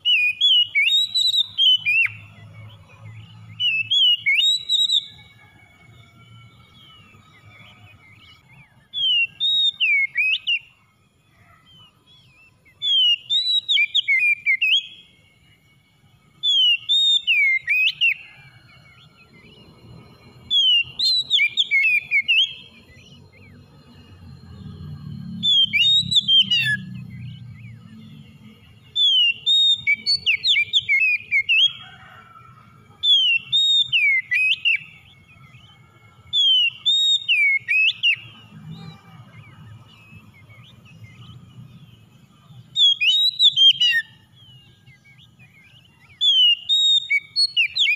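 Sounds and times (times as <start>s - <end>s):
bird whistled song: 0.0s - 47.9s.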